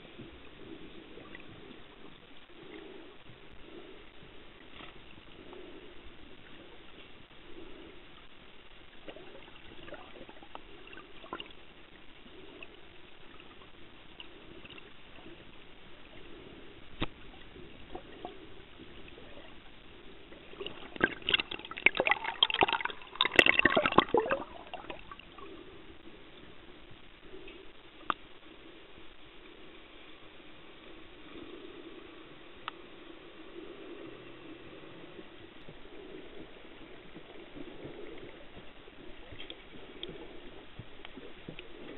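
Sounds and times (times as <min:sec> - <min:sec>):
faint underwater hiss: 0:00.0 - 0:41.9
rapid crackling and bubbling: 0:00.0 - 0:41.9.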